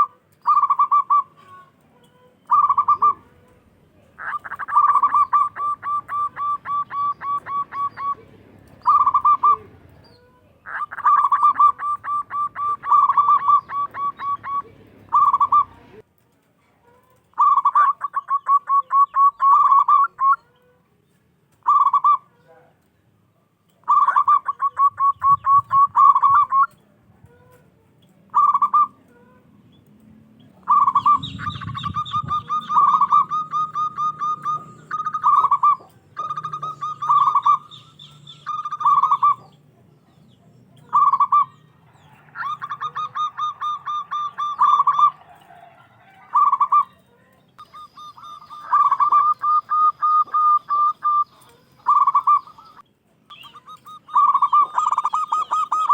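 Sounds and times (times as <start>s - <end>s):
dove cooing: 0.0s - 16.0s, 17.1s - 20.8s, 21.6s - 22.7s, 23.8s - 29.5s, 30.4s - 55.9s.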